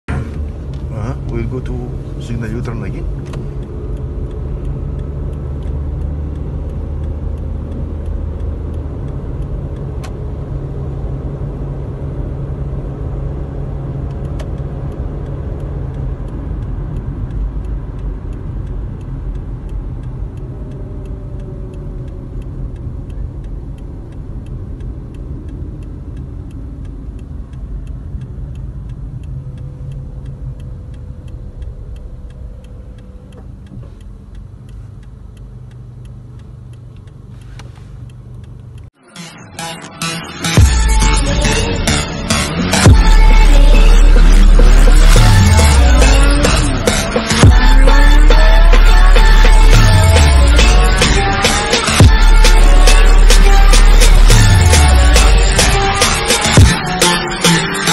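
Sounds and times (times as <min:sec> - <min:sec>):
car engine and road rumble: 0:00.0 - 0:57.9
turn signal clicking: 0:00.1 - 0:39.0, 0:40.4 - 0:57.9.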